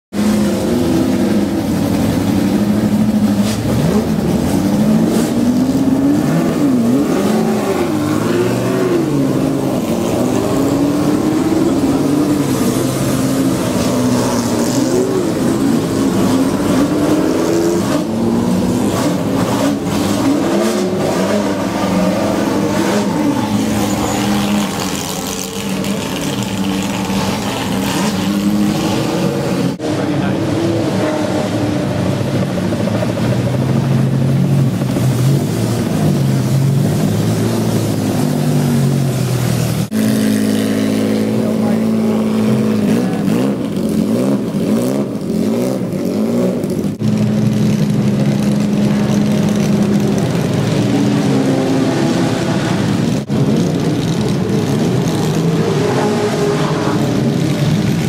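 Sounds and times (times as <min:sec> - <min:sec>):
car engines revving: 0:00.1 - 0:58.0.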